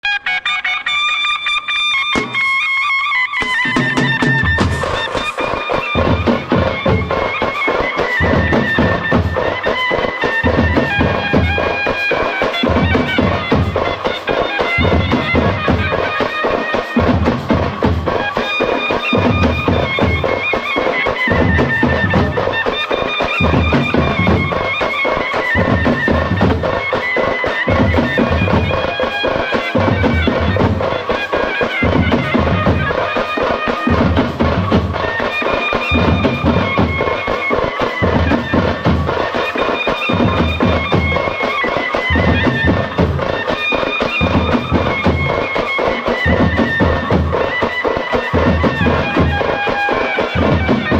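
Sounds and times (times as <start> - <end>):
shehnai wavering melody: 0.0 - 50.9
drum beats: 1.6 - 50.9.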